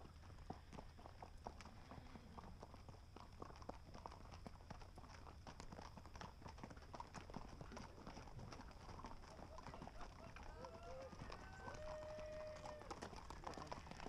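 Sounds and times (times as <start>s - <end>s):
horse hoofbeats clip-clopping: 0.0s - 14.0s.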